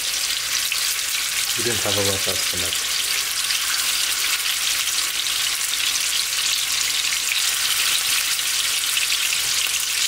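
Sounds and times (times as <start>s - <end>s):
meat sizzling and crackling: 0.0s - 10.0s.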